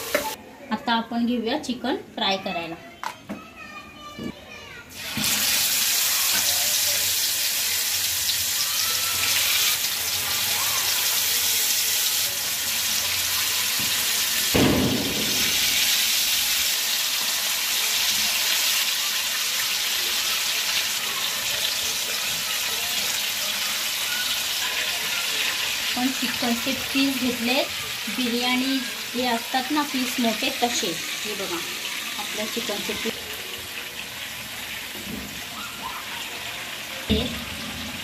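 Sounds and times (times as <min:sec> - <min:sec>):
chicken deep-frying in oil: 0:04.9 - 0:38.0.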